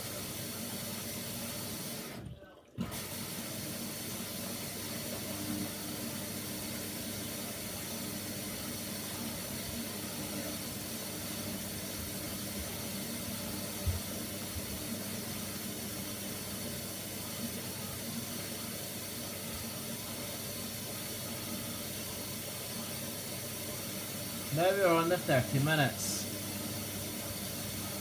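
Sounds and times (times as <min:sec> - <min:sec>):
water running into washing machine: 0:00.0 - 0:28.0.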